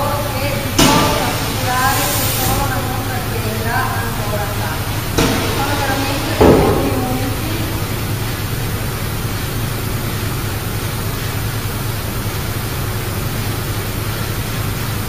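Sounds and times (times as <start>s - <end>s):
even hiss: 0.0s - 15.0s
low constant hum: 0.0s - 15.0s.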